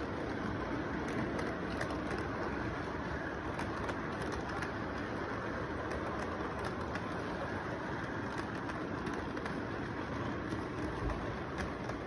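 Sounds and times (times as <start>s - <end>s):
model train cars rumbling: 0.0s - 12.0s
wheel clicks: 0.0s - 12.0s.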